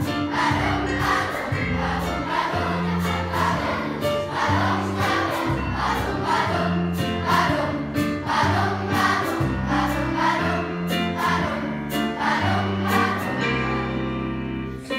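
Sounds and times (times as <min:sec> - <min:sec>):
children's choir singing: 0:00.0 - 0:14.9.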